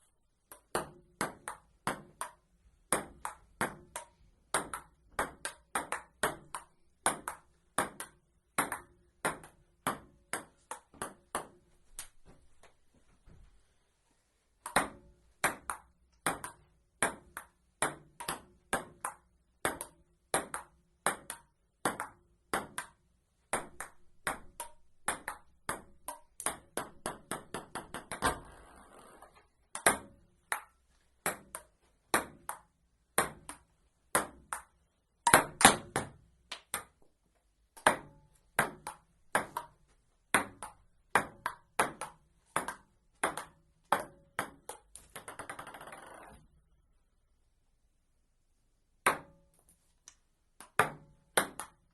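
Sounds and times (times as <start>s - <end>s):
ping-pong ball hitting paddles: 0.4s - 12.1s, 14.6s - 37.1s, 37.8s - 46.5s, 49.0s - 49.5s, 50.6s - 51.9s.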